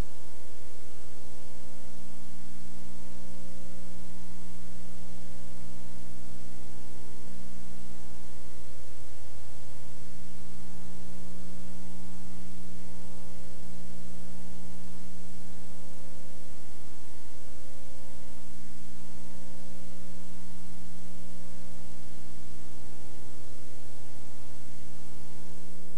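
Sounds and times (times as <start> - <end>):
constant hiss: 0.0 - 25.9
electrical mains hum: 0.0 - 25.9.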